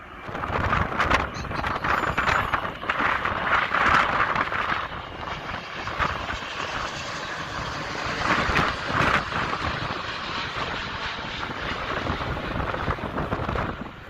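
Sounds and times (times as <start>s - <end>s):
jet airliner passing overhead: 0.0s - 14.0s.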